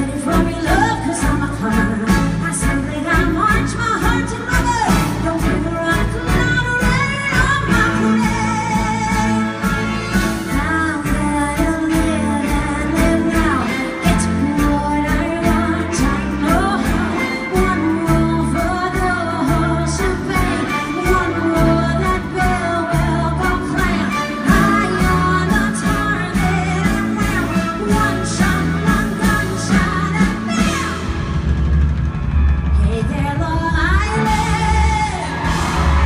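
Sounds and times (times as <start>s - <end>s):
woman singing: 0.0s - 31.1s, 32.8s - 36.0s
band with drums guitar and piano: 0.0s - 36.0s.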